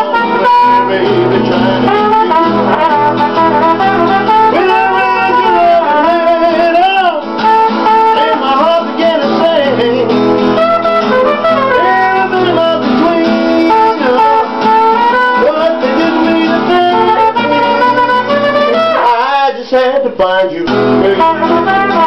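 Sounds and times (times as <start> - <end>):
trumpet melody: 0.0 - 19.5, 20.8 - 22.0
strummed acoustic guitar: 0.0 - 22.0.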